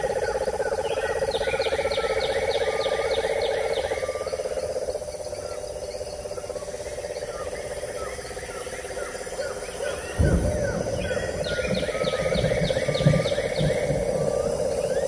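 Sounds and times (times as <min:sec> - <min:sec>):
rapid chirping calls: 0:00.0 - 0:15.0.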